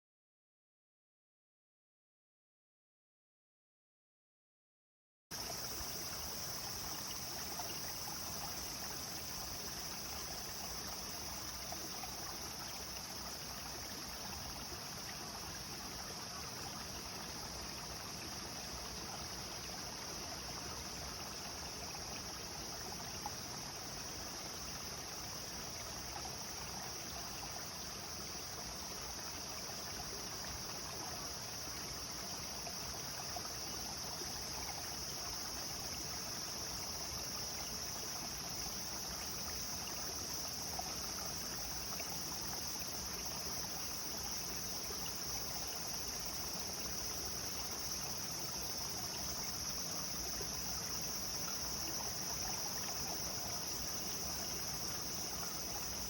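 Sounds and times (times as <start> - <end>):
stream flowing: 5.4 - 56.0.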